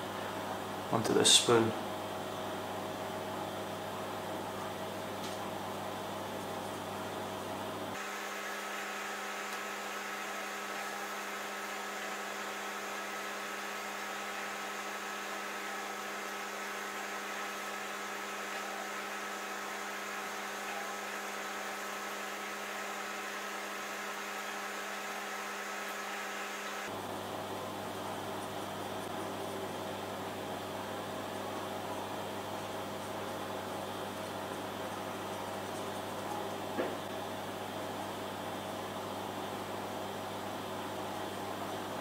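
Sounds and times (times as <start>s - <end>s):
electrical hum: 0.0s - 42.0s.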